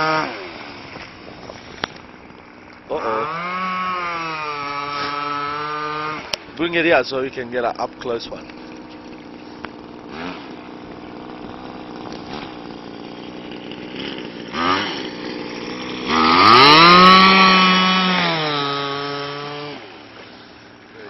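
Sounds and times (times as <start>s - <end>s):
rc boat engine passing: 0.0s - 21.0s.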